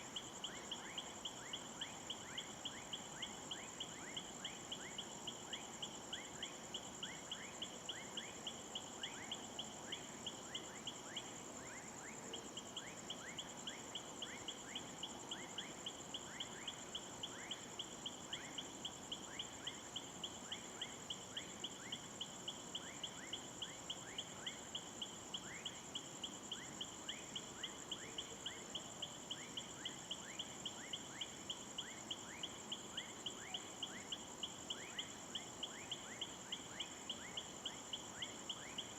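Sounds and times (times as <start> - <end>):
insect high-pitched trill: 0.0 - 38.9.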